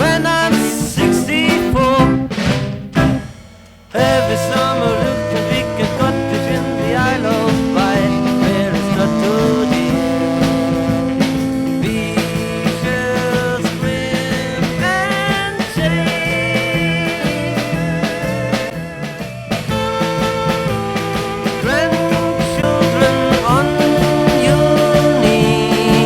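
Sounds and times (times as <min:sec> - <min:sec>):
band playing: 0:00.0 - 0:26.0
bass line: 0:00.0 - 0:26.0
drums: 0:00.0 - 0:26.0.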